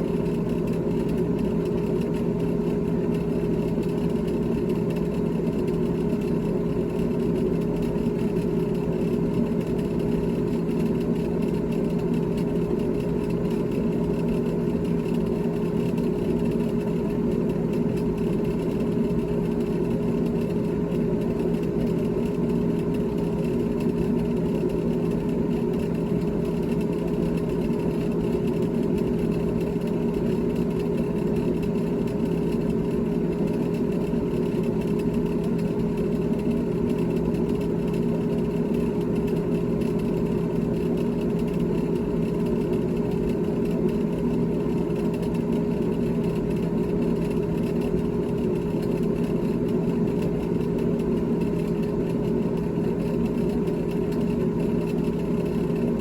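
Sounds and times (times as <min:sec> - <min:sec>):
refrigerator hum: 0:00.0 - 0:56.0.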